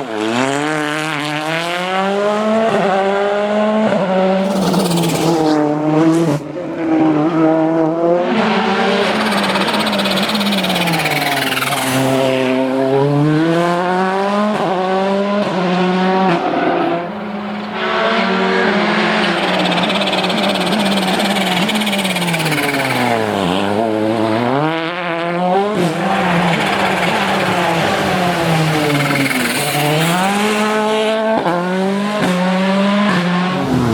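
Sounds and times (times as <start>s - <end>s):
rally car engine at full throttle: 0.0s - 33.9s.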